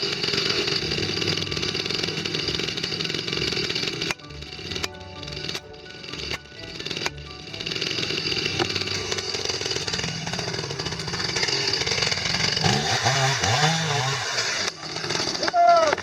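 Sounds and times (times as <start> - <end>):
chainsaw running: 0.0 - 16.0.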